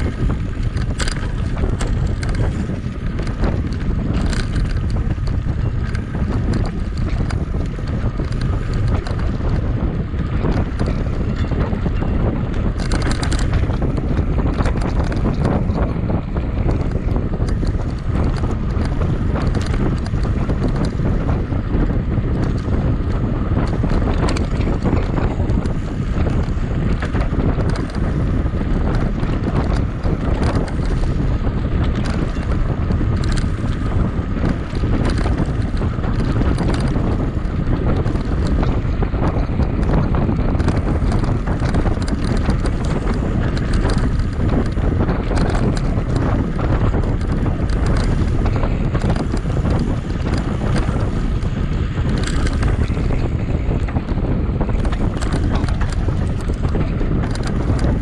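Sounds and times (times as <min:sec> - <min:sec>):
bike knocks and rattles: 0:00.0 - 0:58.0
wind buffeting microphone: 0:00.0 - 0:58.0.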